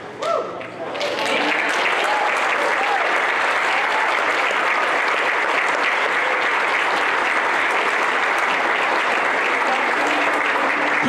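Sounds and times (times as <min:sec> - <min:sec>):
people clapping: 0:00.0 - 0:11.0.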